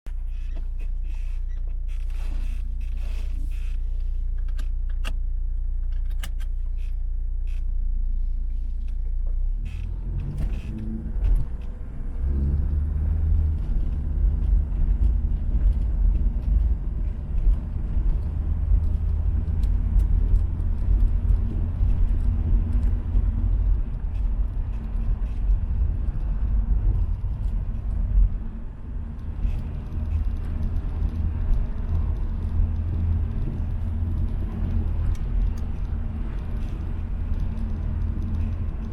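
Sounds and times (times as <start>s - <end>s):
diesel car engine: 0.1s - 38.9s.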